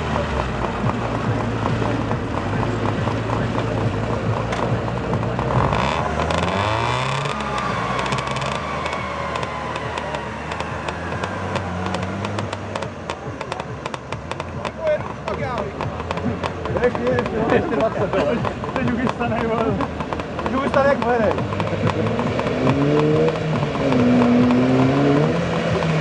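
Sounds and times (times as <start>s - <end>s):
small tractor engine running: 0.0s - 26.0s.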